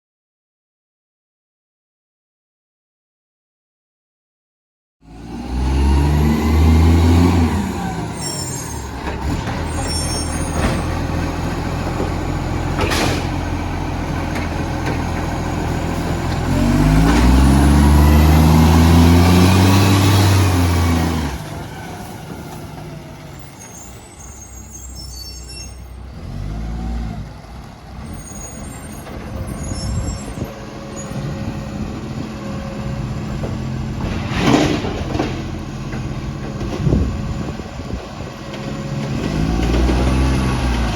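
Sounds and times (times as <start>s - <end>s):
diesel truck engine revving: 5.1s - 40.9s.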